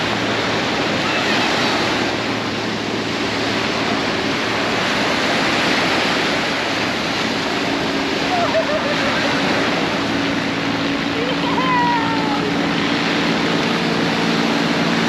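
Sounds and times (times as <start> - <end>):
rushing water: 0.0 - 15.0
wind: 0.0 - 15.0.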